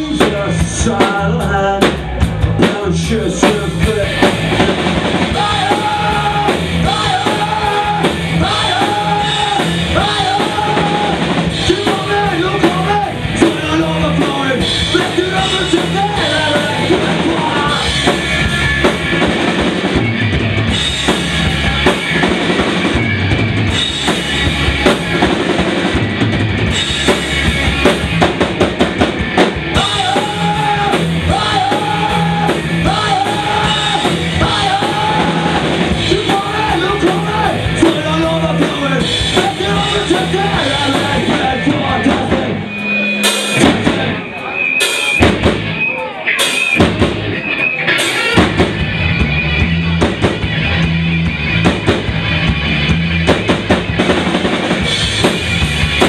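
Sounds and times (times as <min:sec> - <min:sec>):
drum kit beat: 0:00.0 - 0:56.0
electric guitars: 0:00.0 - 0:56.0
rock band playing: 0:00.0 - 0:56.0.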